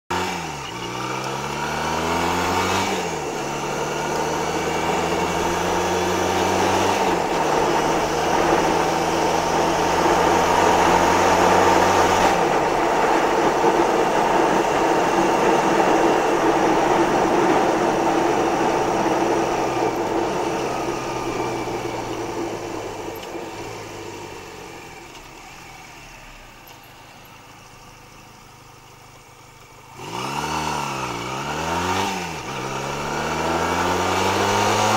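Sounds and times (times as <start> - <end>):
motorcycle engine: 0.1 - 34.9.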